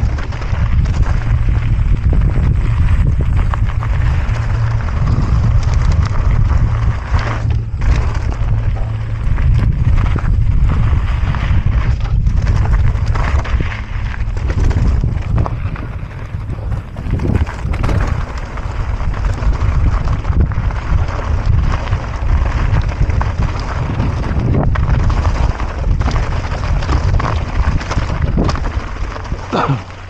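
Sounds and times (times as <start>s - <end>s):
bike clicks and knocks: 0.0s - 30.0s
tyres rumbling on dirt trail: 0.0s - 30.0s
wind buffeting microphone: 0.0s - 30.0s.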